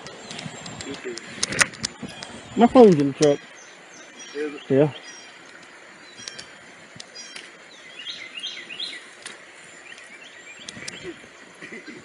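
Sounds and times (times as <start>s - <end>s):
background hiss: 0.0s - 12.0s
songbird chirping: 0.0s - 12.0s.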